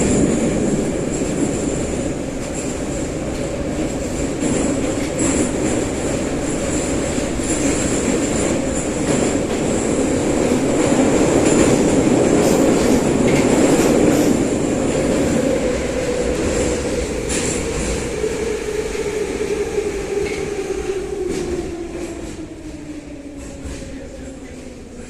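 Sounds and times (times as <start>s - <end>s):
metro train wheels and motors rumbling: 0.0s - 25.0s.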